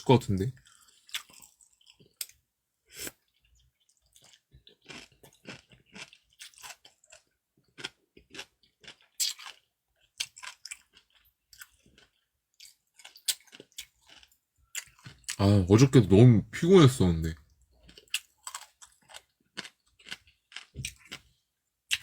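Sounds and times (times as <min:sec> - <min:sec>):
person chewing food: 0:00.6 - 0:02.4, 0:03.0 - 0:15.6, 0:17.5 - 0:22.0.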